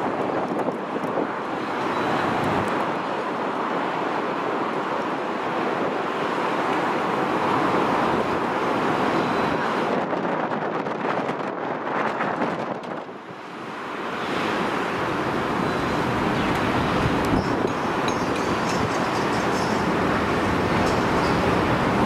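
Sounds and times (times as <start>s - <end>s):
jet engines at takeoff: 0.0s - 22.0s
wind buffeting microphone: 0.0s - 22.0s.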